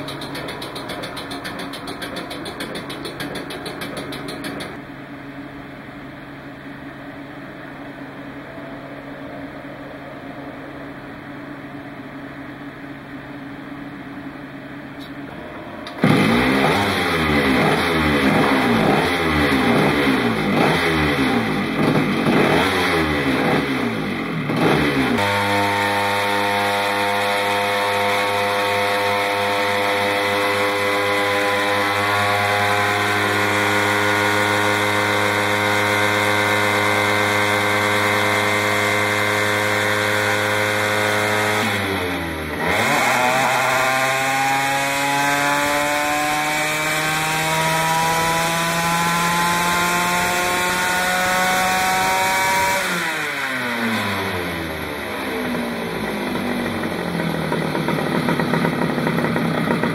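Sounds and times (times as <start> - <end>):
kart engine revving: 0.0 - 4.9, 15.5 - 59.9.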